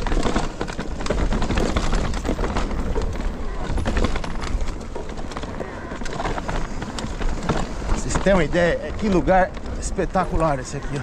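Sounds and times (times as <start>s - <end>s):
bike rattling over bumps: 0.0s - 11.0s
bike tyres rolling on dirt: 0.0s - 11.0s.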